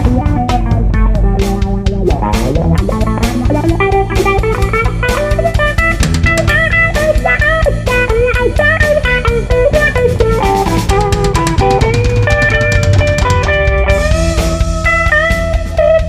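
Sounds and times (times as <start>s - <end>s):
bass guitar: 0.0s - 16.0s
drums: 0.0s - 16.0s
electric guitar melody: 0.0s - 16.0s.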